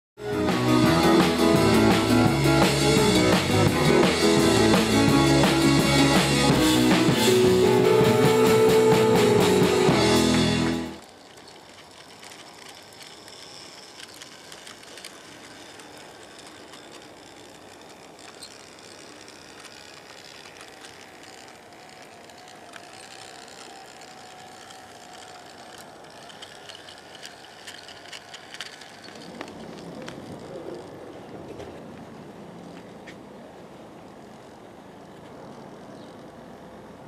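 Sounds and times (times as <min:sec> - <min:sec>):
faint wavering whine: 0:00.2 - 0:32.8
model train running: 0:00.2 - 0:37.0
wheels clicking on rails: 0:00.2 - 0:37.0.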